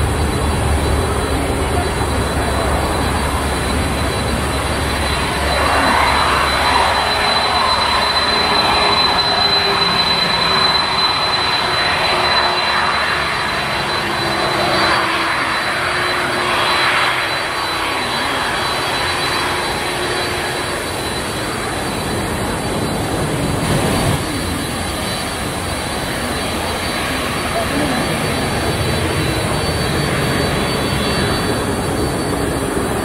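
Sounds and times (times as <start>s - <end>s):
jet engines roaring at takeoff: 0.0s - 33.0s.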